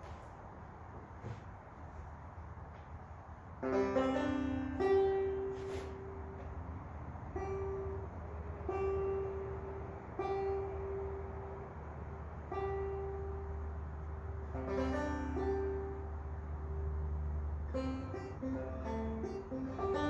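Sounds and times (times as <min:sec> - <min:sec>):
steady low hum: 0:00.0 - 0:20.0
banjo playing: 0:03.5 - 0:20.0.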